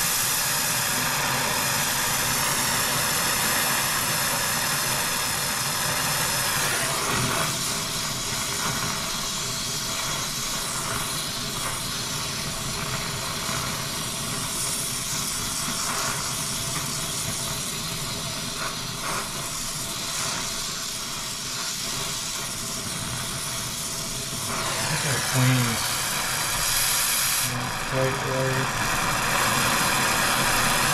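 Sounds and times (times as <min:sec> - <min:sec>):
torch flame hissing: 0:00.0 - 0:30.9.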